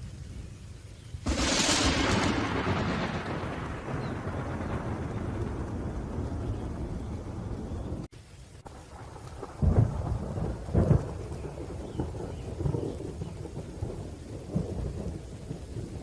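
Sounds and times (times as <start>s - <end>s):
steady rain: 0.0s - 16.0s
rolling thunder: 1.2s - 16.0s
loud thunderclaps: 1.3s - 8.1s, 8.9s - 16.0s.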